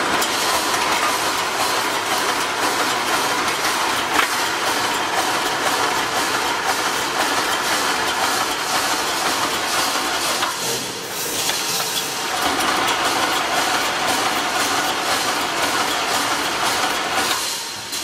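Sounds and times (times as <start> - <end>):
welding machine clattering: 0.0 - 18.0.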